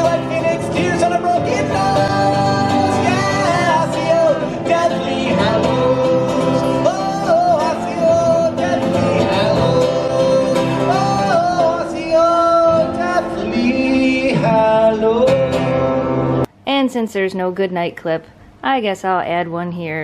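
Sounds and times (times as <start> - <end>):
acoustic guitar strumming: 0.0 - 16.5
man singing: 0.0 - 16.5.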